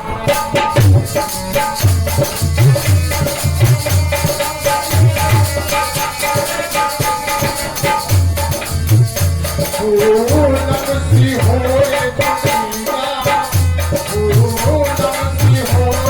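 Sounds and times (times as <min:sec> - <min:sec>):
heavy low drum beats: 0:00.0 - 0:16.0.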